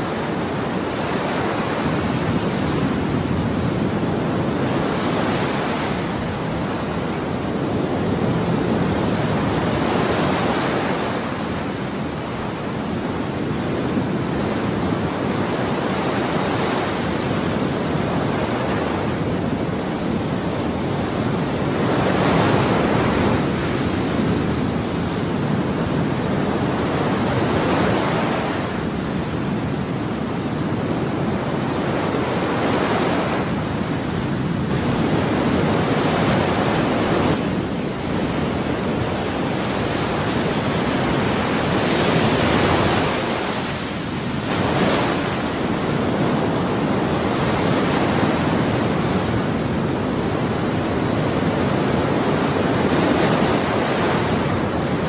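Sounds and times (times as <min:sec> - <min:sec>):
ocean waves on shore: 0:00.0 - 0:55.0.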